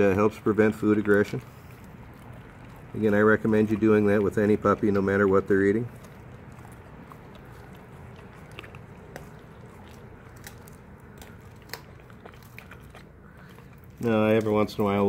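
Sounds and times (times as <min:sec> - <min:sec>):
puppy chewing fish bones: 0:00.0 - 0:15.0.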